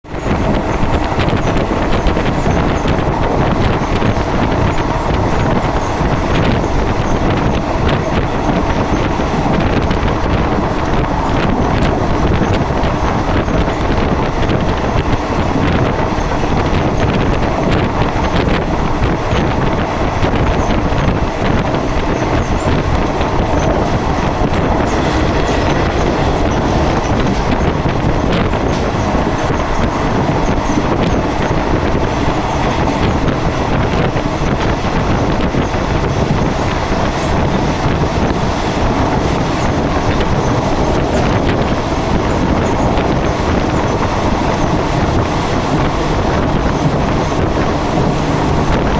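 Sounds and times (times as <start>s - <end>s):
train rumble: 0.0s - 48.9s
wheels clicking over rails: 0.0s - 48.9s.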